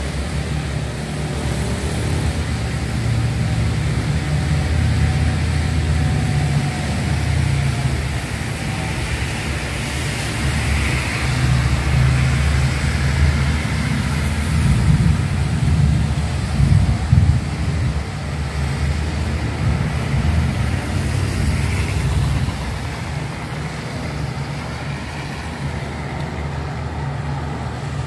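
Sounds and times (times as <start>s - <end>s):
traffic on wet road: 0.0s - 28.0s.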